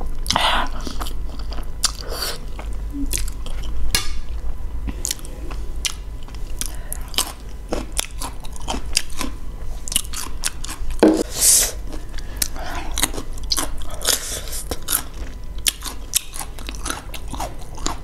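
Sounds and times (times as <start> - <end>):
person chewing noodles: 0.0 - 3.8, 4.9 - 18.0.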